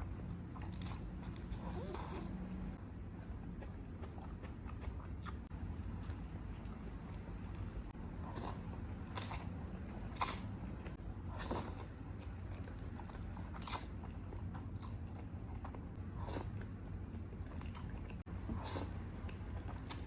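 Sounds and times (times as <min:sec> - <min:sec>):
low steady hum: 0:00.0 - 0:20.0
chewing noodles: 0:00.6 - 0:02.4, 0:03.2 - 0:20.0.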